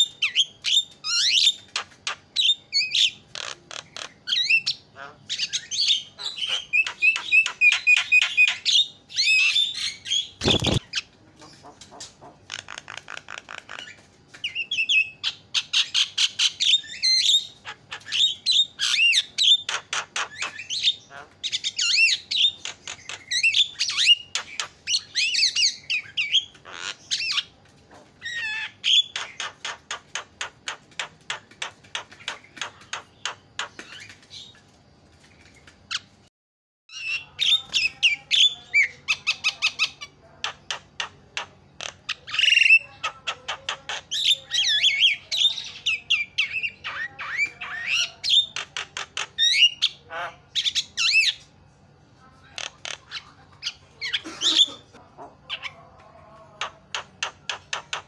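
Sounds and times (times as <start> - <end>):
bird chattering and squawking: 0.0 - 34.6, 36.9 - 51.6, 52.4 - 58.0.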